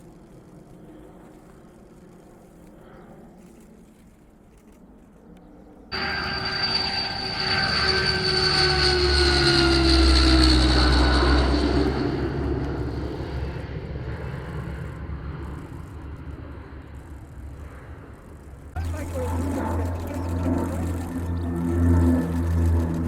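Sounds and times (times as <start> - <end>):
turboprop aircraft passing: 0.0 - 23.0.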